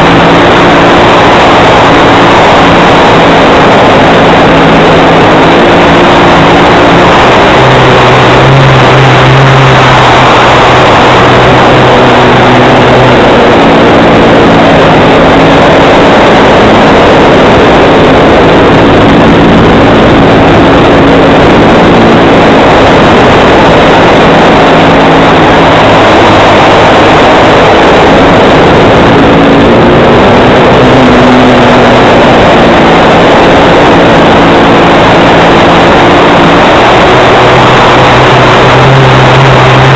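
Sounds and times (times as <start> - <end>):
heavy wind rush: 0.0 - 39.9
model plane engine running: 0.0 - 39.9.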